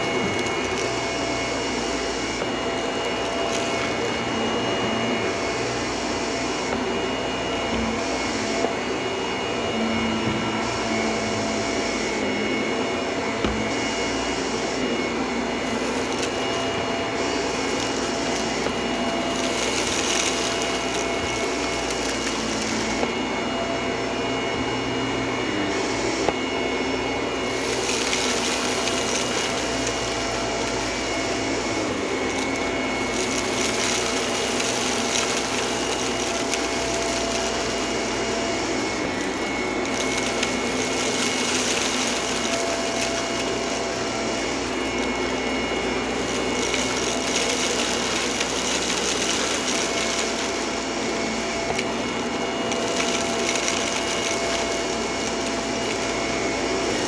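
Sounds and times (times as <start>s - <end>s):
vacuum cleaner on carpet: 0.0s - 57.0s.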